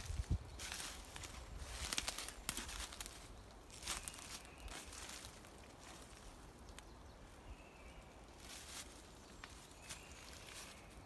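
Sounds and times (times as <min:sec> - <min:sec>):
footsteps on forest floor: 0:00.0 - 0:07.5, 0:08.3 - 0:11.0.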